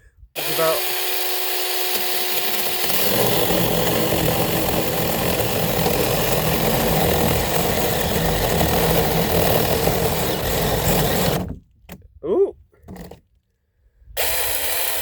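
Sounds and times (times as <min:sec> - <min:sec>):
chainsaw cutting log: 0:00.4 - 0:11.6, 0:14.2 - 0:15.0.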